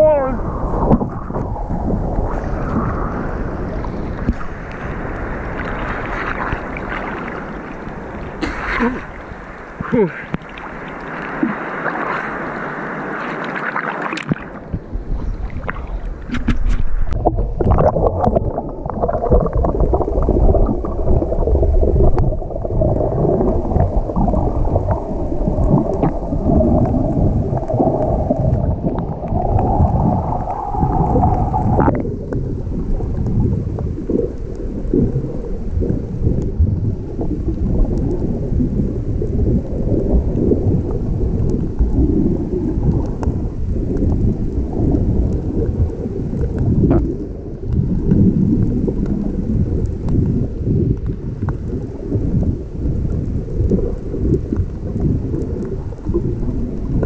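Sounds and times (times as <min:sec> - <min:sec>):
wind buffeting microphone: 0:00.0 - 0:12.8, 0:14.3 - 0:57.0
rough surf: 0:00.0 - 0:57.0.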